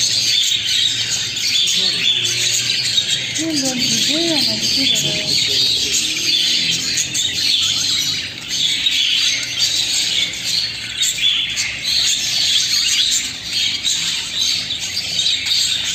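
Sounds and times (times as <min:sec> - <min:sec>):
budgerigars chattering: 0:00.0 - 0:15.9.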